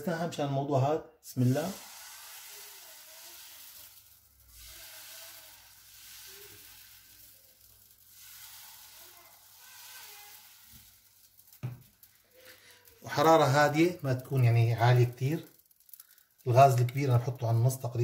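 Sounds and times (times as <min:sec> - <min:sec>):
batter sizzling in frying pan: 0:01.3 - 0:18.0.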